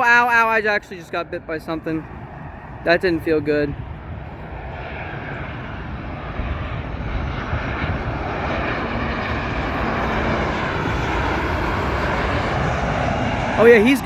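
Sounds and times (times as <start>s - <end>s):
airliner jet noise: 0.0s - 14.0s.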